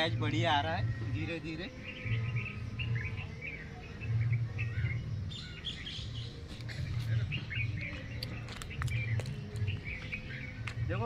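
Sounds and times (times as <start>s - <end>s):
small birds chirping and twittering: 0.0s - 11.0s.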